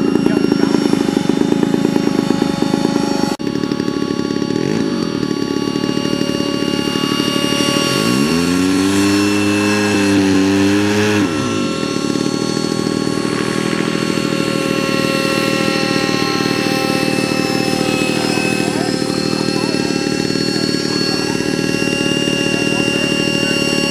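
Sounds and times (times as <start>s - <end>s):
model aircraft engine running: 0.0s - 23.9s.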